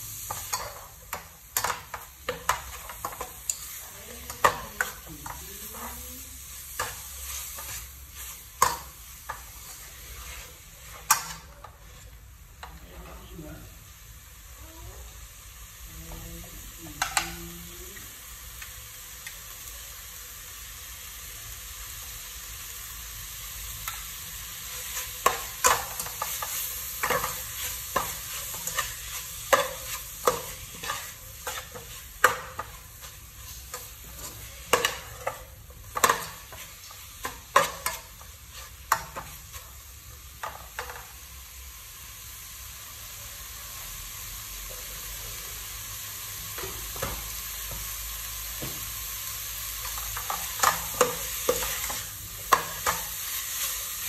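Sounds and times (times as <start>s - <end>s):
paste sizzling in a pot: 0.0s - 54.0s.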